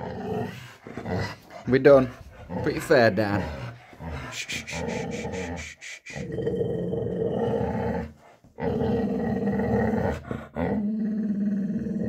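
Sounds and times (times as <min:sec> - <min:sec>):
dog growling low: 0:00.0 - 0:12.0.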